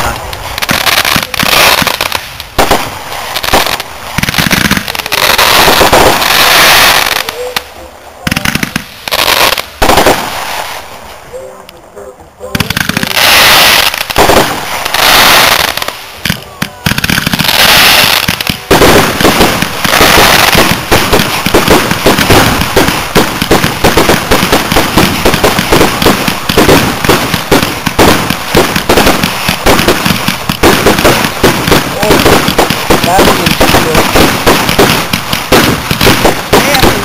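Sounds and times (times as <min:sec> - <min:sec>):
fireworks bangs and crackles: 0:00.0 - 0:37.0
hissing crackling firework shells: 0:00.0 - 0:37.0.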